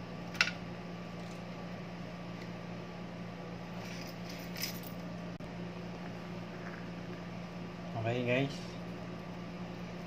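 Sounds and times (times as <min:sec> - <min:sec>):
low hum with fixed tones: 0:00.0 - 0:10.0.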